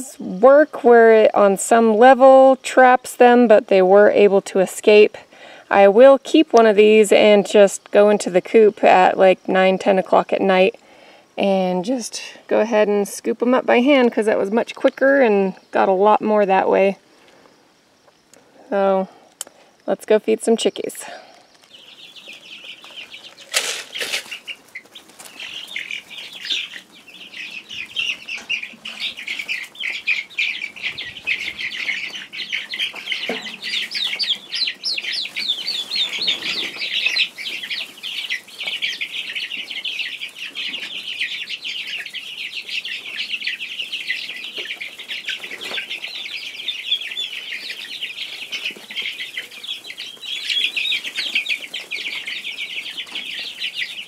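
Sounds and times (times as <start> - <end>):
young chickens peeping: 0.0 - 54.0.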